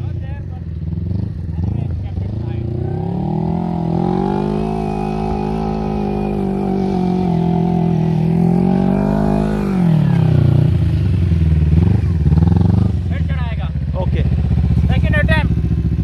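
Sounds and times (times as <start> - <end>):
go-kart engine running: 0.0 - 16.0.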